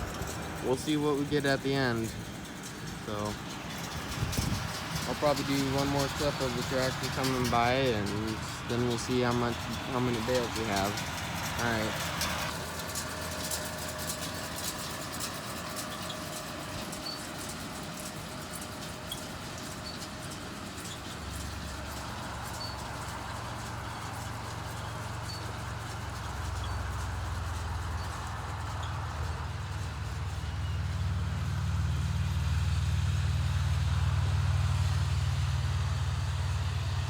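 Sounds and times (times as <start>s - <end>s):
distant tractor drone: 0.0s - 37.0s.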